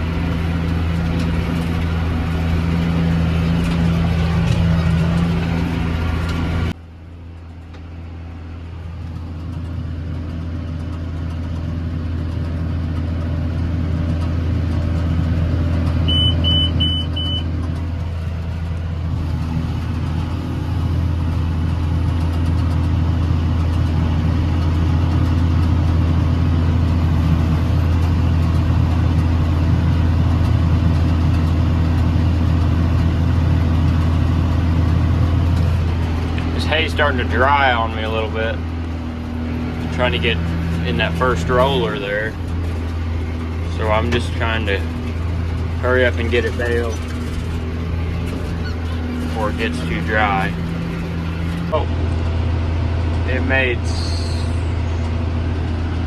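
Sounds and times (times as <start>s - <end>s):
tractor engine drone: 0.0s - 56.0s.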